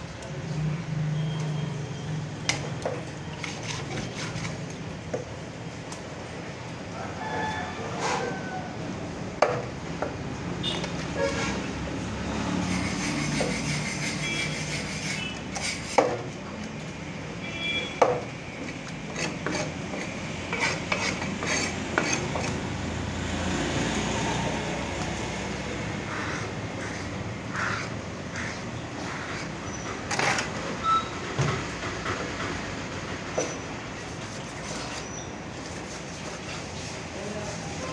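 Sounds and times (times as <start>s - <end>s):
traffic rumble: 0.0s - 37.9s.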